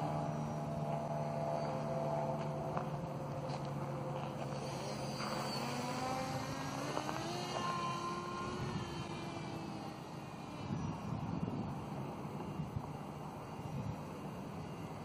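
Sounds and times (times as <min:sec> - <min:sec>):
model aircraft motor whining: 0:00.0 - 0:15.0.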